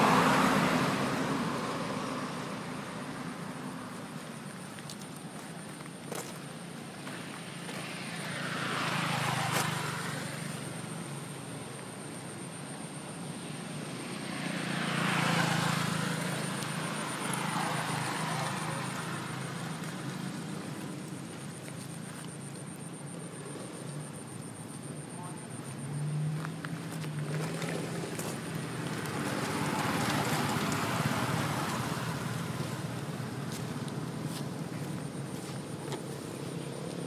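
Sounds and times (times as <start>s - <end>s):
engine passing by: 0.0s - 5.4s, 6.1s - 22.0s, 22.8s - 37.0s.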